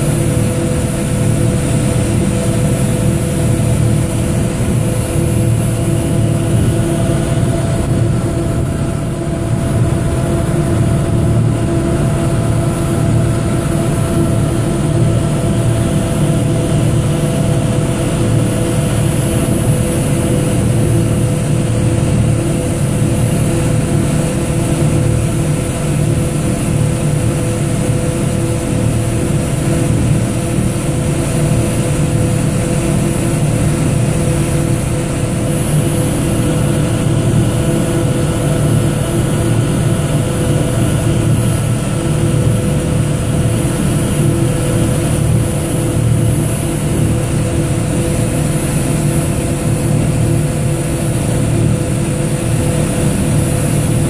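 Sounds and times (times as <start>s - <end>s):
boat diesel engine running: 0.0s - 54.0s.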